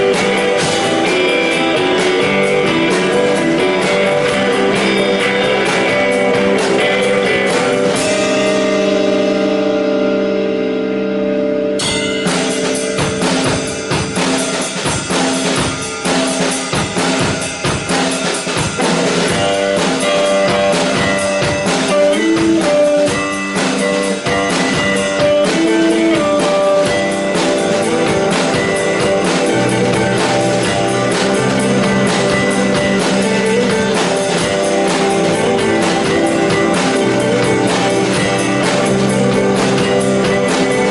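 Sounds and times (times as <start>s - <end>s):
held guitar chord ringing: 0.0s - 40.9s
rock band playing live: 0.0s - 40.9s.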